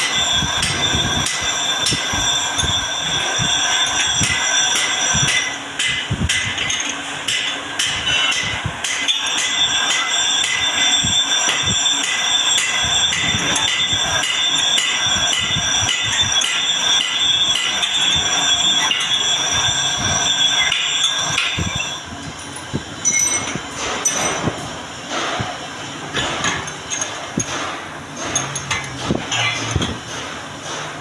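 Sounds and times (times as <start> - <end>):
knocks and clatter: 0.0 - 31.0
lathe high-pitched metallic whine: 0.0 - 31.0.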